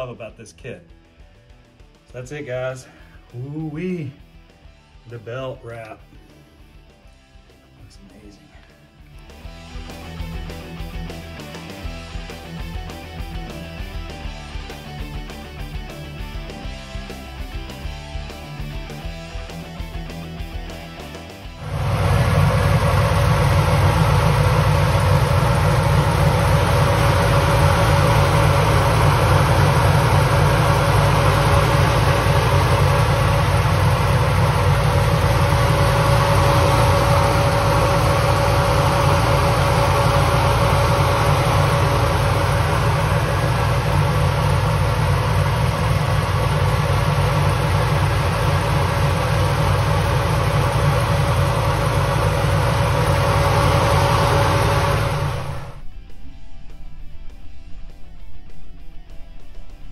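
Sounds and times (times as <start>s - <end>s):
constant high supercharger whine: 6.4s - 59.9s
car engine idling: 9.2s - 59.9s.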